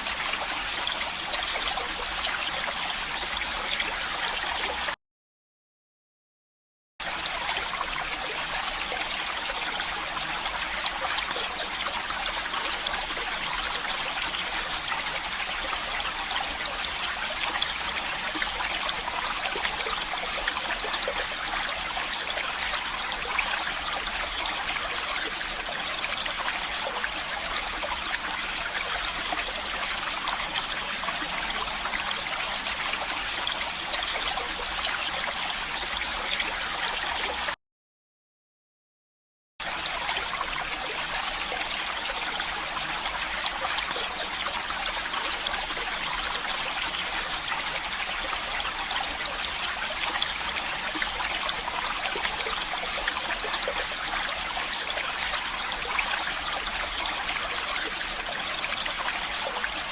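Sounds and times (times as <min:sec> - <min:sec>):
stream water running: 0:00.0 - 0:05.0, 0:07.0 - 0:37.6, 0:39.6 - 0:59.9.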